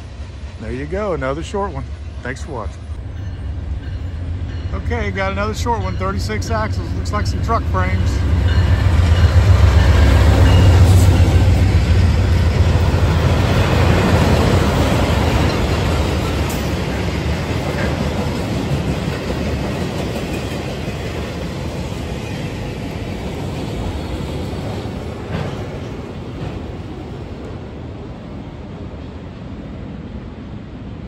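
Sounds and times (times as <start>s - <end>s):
diesel locomotive rumble: 0.0s - 29.3s
train wheels on rails: 0.0s - 31.0s.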